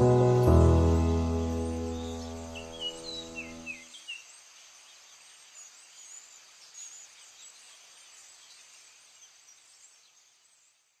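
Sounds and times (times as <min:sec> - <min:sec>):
small birds chirping: 0:00.0 - 0:11.0
steady outdoor hiss: 0:00.0 - 0:11.0.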